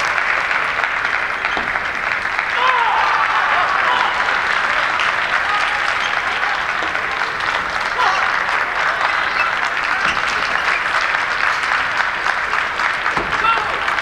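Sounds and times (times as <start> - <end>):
crowd applauding: 0.0 - 14.0
spectators' voices: 0.0 - 14.0.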